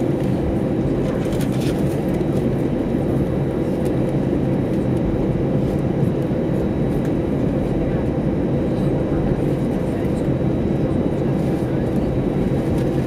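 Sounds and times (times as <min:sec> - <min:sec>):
jet engines running: 0:00.0 - 0:13.0
low rumble of aircraft rolling: 0:00.0 - 0:13.0.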